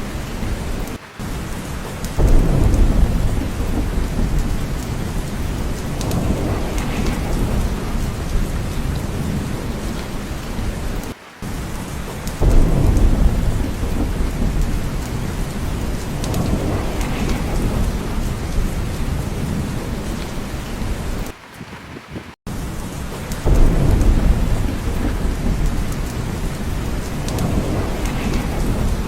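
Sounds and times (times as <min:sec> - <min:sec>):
deep rolling thunder: 0:00.0 - 0:29.0
heavy rain: 0:00.0 - 0:29.0.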